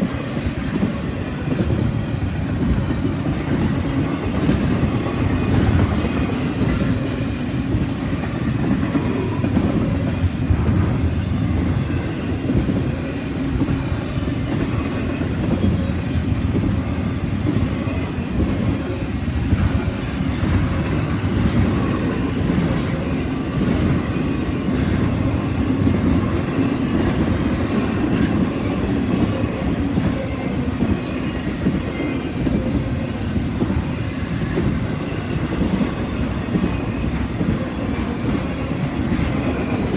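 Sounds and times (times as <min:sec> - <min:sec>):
freight train wheels rumbling and clicking: 0:00.0 - 0:39.9.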